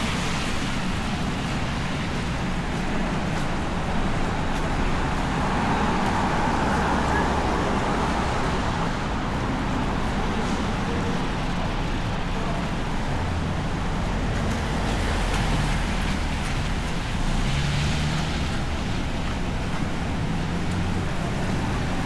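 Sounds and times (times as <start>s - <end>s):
cars and buses passing: 0.0s - 22.0s.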